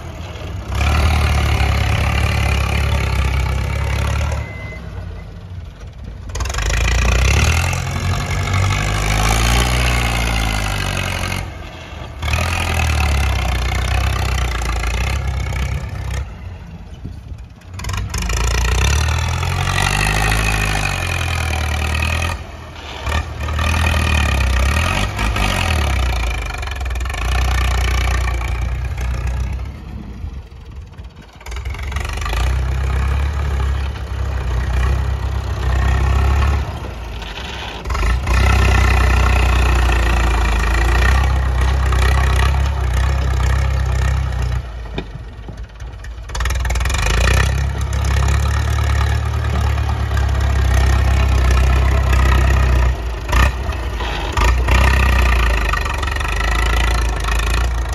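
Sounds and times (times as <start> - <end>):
tractor engine working under load: 0.0 - 57.9.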